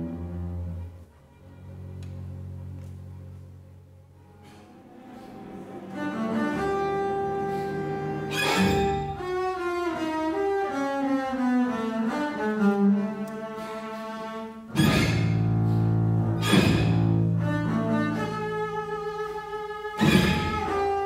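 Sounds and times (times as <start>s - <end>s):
string orchestra playing: 0.0s - 21.0s.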